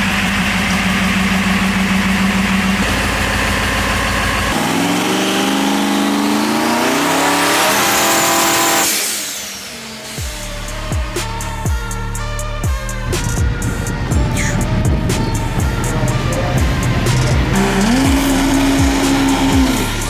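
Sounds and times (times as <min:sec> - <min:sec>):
diesel engine running hard: 0:00.0 - 0:20.0
high whistle: 0:03.8 - 0:20.0.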